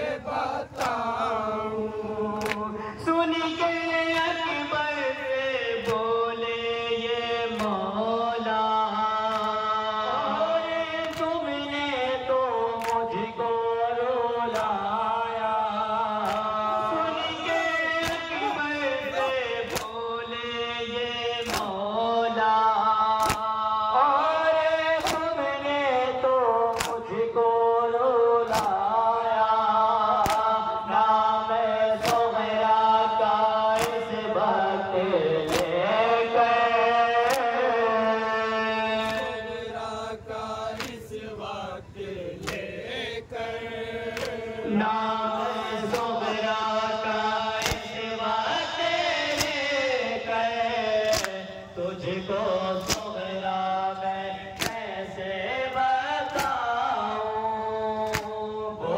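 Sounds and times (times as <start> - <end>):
men chanting a lament through microphones: 0.0 - 58.9.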